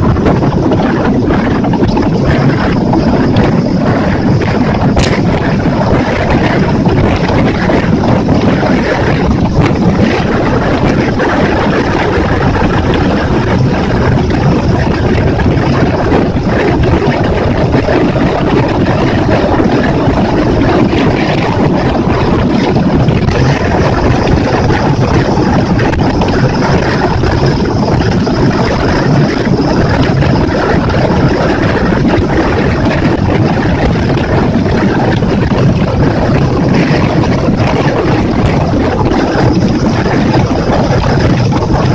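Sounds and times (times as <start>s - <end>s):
outboard motor running: 0.0s - 41.9s
water rushing past hull: 0.0s - 41.9s
wind on microphone: 0.0s - 41.9s.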